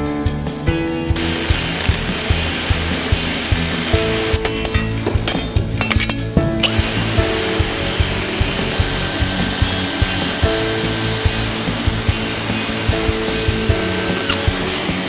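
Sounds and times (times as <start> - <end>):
drill wire brush scraping metal: 1.2 - 15.0.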